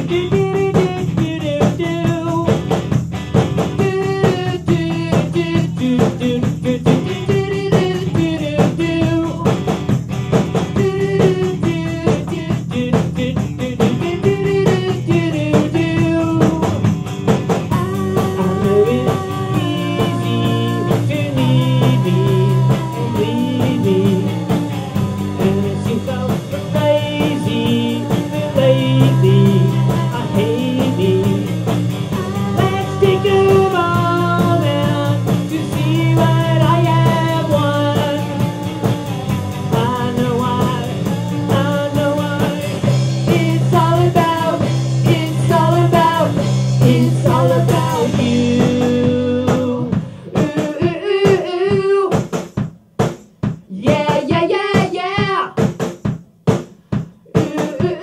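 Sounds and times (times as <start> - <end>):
bass guitar: 0.0 - 50.6
electric guitar: 0.0 - 52.0
man singing lead: 0.0 - 52.3, 53.6 - 55.7, 57.2 - 58.0
drums: 0.0 - 58.0.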